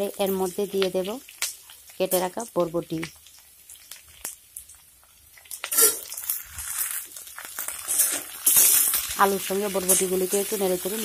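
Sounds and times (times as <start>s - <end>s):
crackling oil: 0.0s - 11.0s
vegetables sizzling in hot oil: 0.0s - 11.0s.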